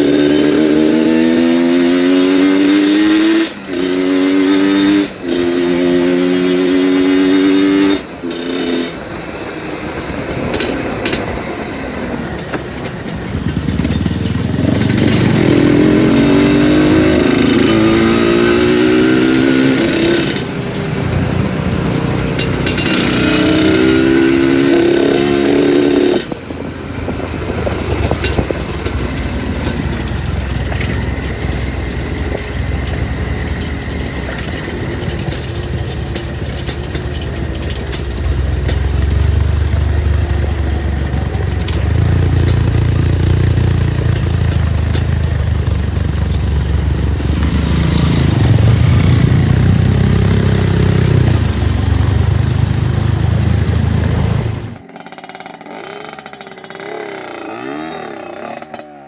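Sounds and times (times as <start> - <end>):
two-stroke motorcycle engine revving: 0.0 - 59.0
rough ground noise: 7.1 - 59.0.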